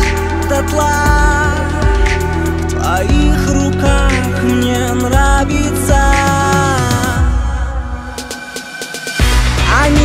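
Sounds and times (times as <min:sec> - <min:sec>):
bass line: 0:00.0 - 0:08.3, 0:09.2 - 0:10.0
song with held melodic notes: 0:00.0 - 0:10.0.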